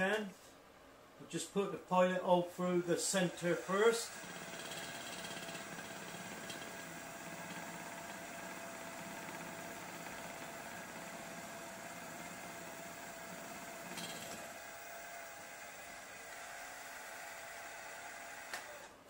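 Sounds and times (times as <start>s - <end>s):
milling machine motor hum: 2.8s - 18.9s.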